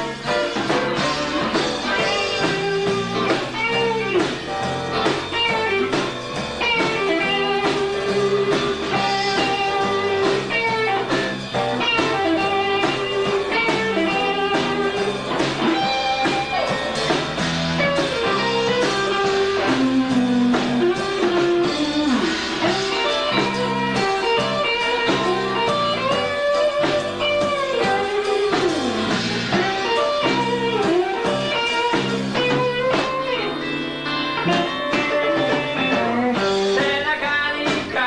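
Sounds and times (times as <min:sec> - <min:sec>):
electric guitar lead lines: 0:00.0 - 0:38.0
rock band playing: 0:00.0 - 0:38.0.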